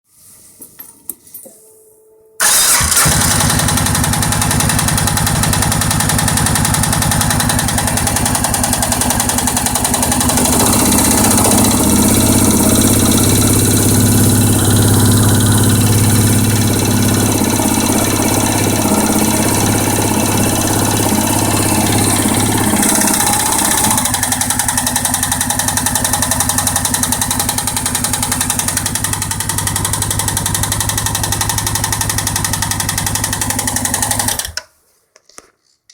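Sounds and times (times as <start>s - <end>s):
atv engine knocking and idling: 2.7s - 34.6s.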